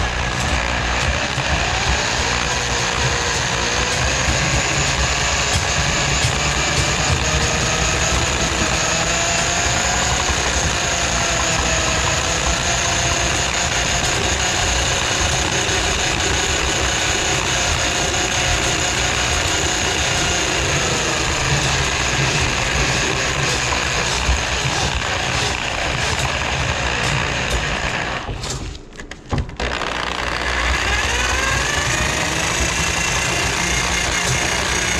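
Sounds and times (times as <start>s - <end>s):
drain auger motor whining: 0.0s - 28.4s, 29.5s - 34.9s.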